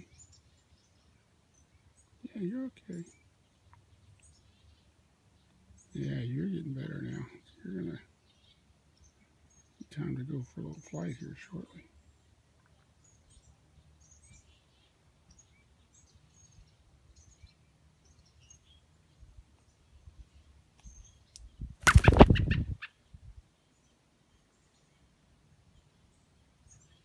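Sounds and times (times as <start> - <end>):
faint bird chirps: 0.0 - 27.0.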